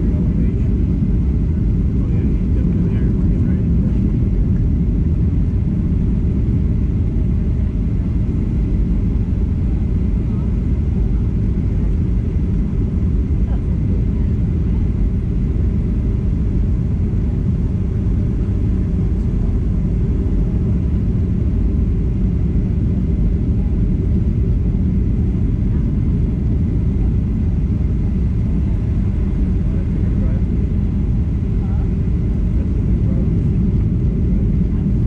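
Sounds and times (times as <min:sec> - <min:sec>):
airplane cabin rumble: 0:00.0 - 0:35.0.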